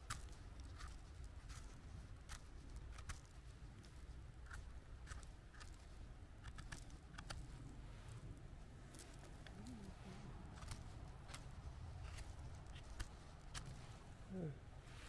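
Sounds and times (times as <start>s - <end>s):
twigs crackling underfoot: 0.0s - 14.3s.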